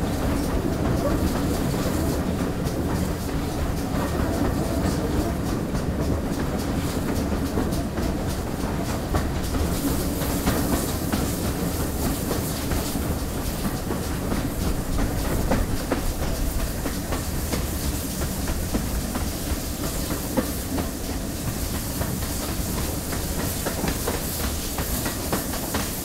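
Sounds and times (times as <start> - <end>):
steam locomotive rumbling: 0.0 - 26.0
wheels clicking over rail joints: 0.0 - 26.0.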